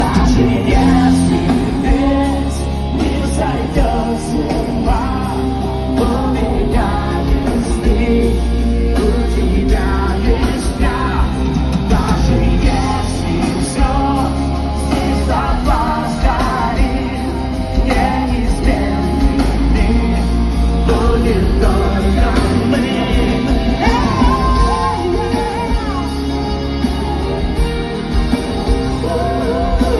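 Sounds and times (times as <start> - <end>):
song with vocal over beat: 0.0 - 29.9.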